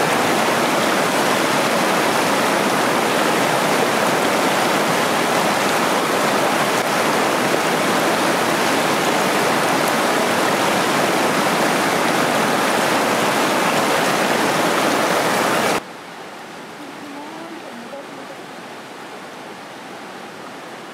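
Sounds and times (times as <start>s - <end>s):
waterfall rushing over rocks: 0.0s - 20.9s.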